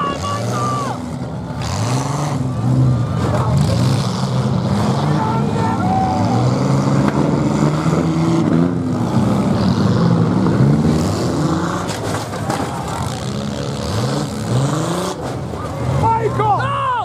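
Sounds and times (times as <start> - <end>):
car engines revving: 0.0 - 17.0
cars crashing: 0.0 - 17.0.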